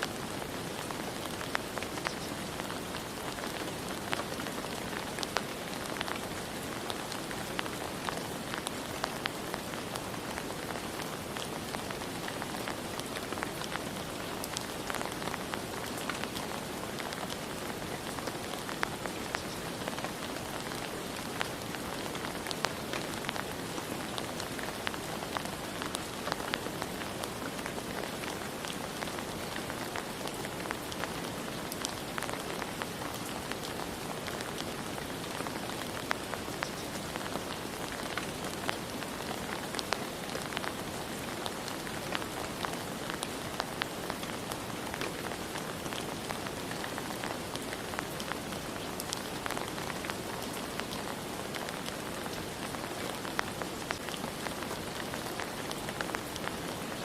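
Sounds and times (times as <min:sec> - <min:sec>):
steady rain hiss: 0:00.0 - 0:57.0
raindrops tapping on a surface: 0:00.1 - 0:56.6.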